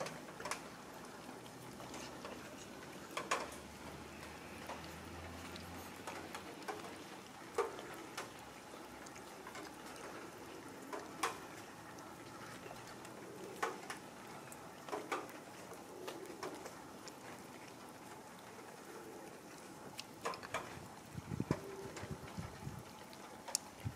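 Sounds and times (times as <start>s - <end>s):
cats chewing wet food: 0.0s - 23.9s.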